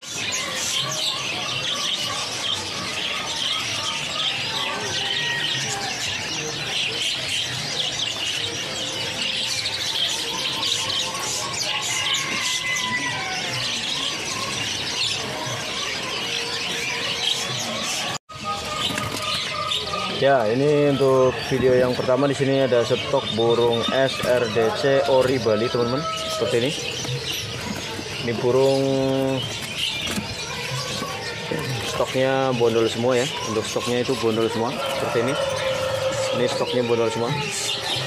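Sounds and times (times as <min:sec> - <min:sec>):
caged birds chirping: 0:00.0 - 0:38.0.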